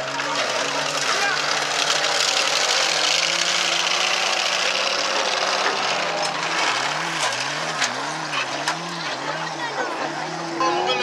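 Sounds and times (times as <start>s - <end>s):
engine revving up and down: 0.0s - 11.0s
stock car engines running: 0.0s - 11.0s.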